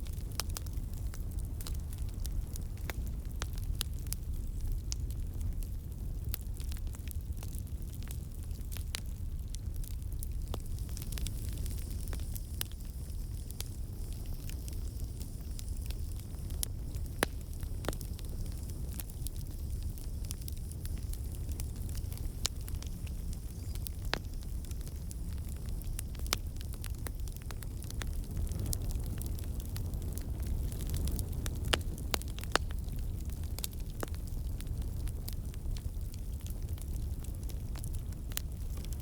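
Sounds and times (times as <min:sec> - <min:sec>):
burning wood crackling: 0:00.0 - 0:39.0
flames rumbling: 0:00.0 - 0:39.0.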